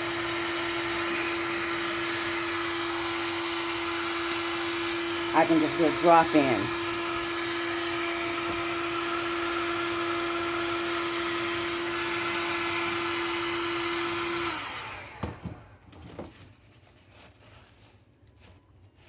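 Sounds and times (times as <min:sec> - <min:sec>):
heat gun whirring: 0:00.0 - 0:15.9.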